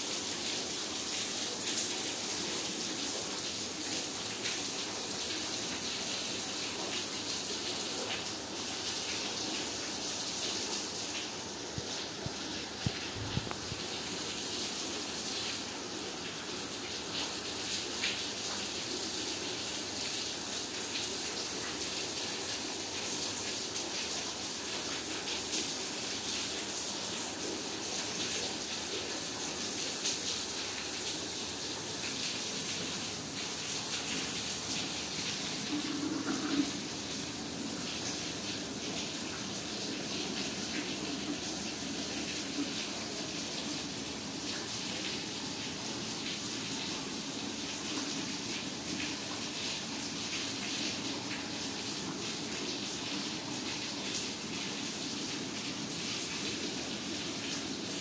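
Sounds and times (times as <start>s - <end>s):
rainwater running off: 0.0s - 58.0s.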